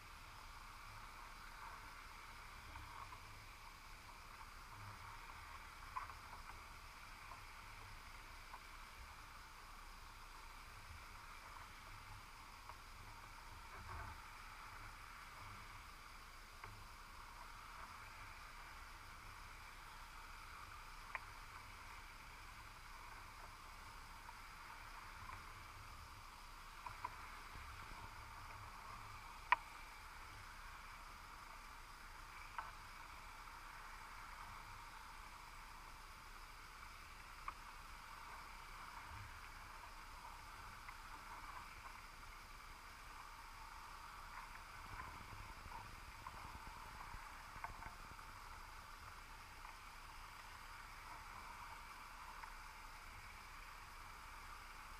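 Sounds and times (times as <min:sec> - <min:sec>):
faint clicks and ticks: 0:00.0 - 0:54.9
faint underwater hiss: 0:00.0 - 0:54.9.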